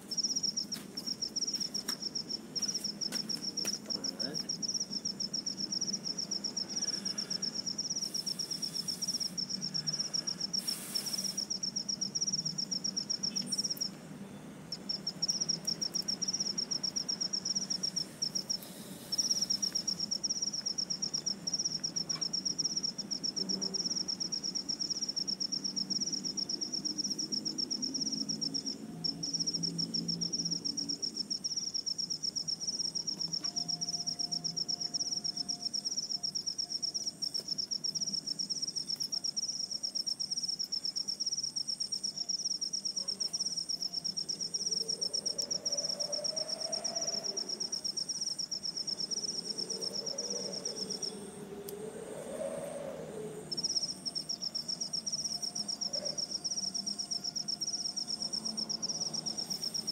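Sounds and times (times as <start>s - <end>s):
high-pitched insect trill: 0.0s - 14.0s, 14.7s - 59.9s.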